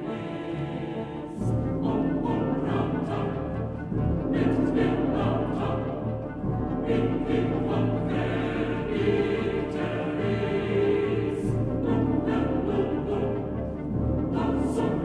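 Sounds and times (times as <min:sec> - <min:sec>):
choir singing: 0:00.0 - 0:15.0
orchestral music: 0:00.0 - 0:15.0.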